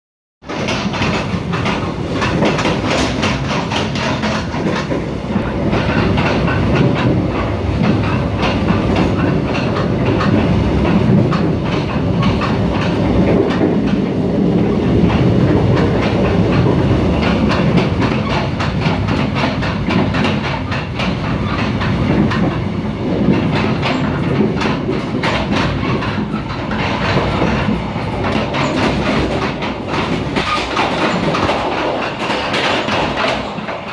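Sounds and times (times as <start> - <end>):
train wheels rumbling on rail: 0.4 - 33.9.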